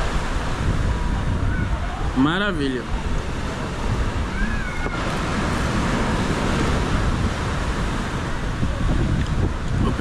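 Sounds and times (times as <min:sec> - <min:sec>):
surf on beach: 0:00.0 - 0:10.0
wind on microphone: 0:00.0 - 0:10.0.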